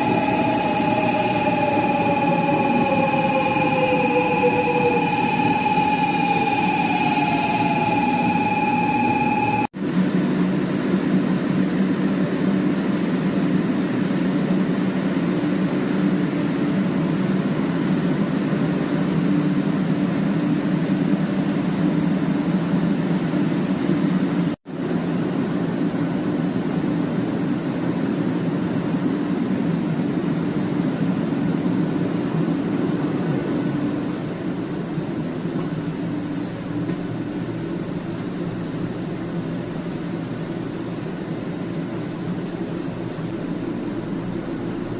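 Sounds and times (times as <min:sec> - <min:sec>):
train carriage rumble and hum: 0:00.0 - 0:44.9.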